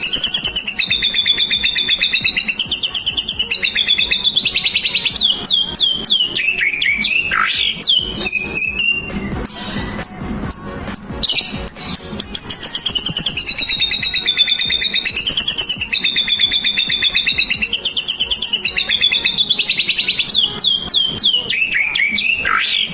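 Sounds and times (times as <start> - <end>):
bird singing whistles and trills: 0.0 - 22.9.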